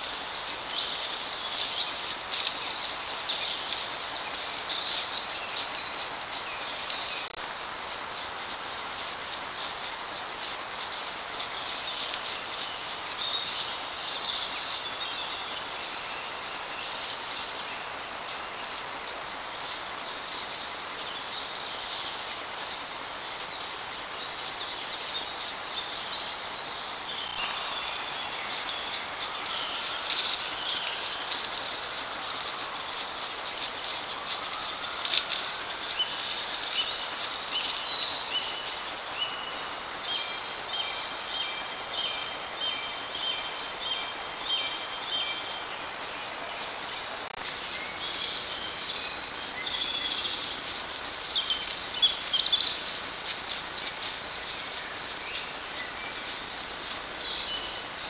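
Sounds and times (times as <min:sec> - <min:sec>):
microphone hiss: 0:00.0 - 0:58.0
woodland ambience: 0:00.0 - 0:58.0.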